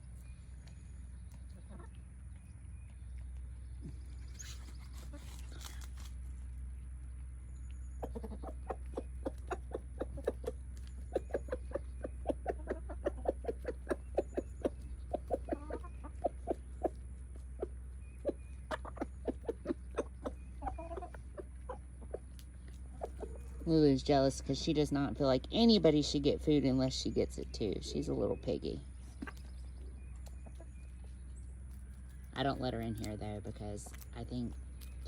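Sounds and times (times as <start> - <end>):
chickens clucking: 0.0 - 35.0
steady low hum: 0.0 - 35.0.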